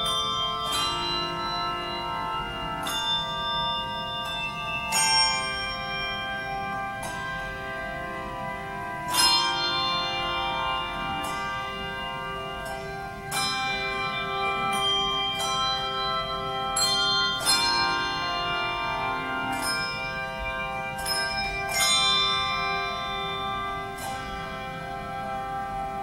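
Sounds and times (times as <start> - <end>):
handbell chords ringing: 0.0 - 26.0.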